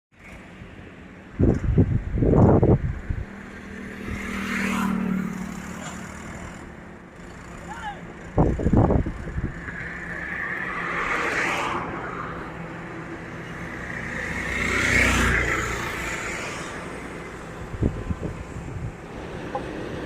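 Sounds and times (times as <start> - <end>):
tractor engines running: 0.1 - 11.3, 12.0 - 20.0.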